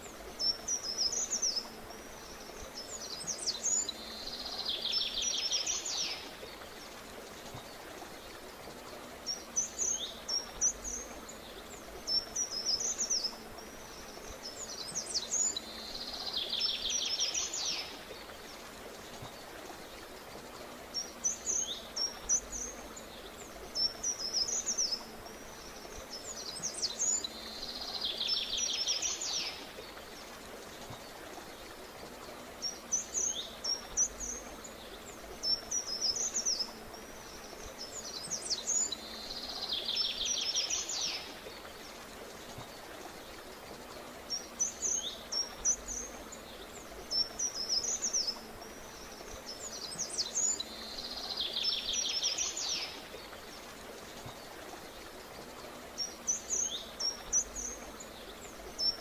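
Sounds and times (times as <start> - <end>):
soft background hiss: 0.0 - 59.0
songbird singing: 0.0 - 59.0.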